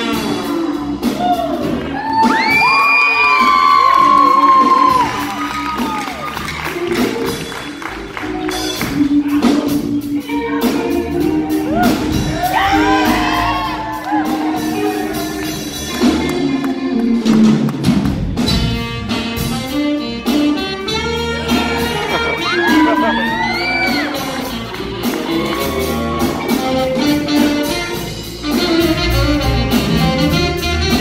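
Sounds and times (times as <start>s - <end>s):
horn band playing: 0.0s - 31.0s.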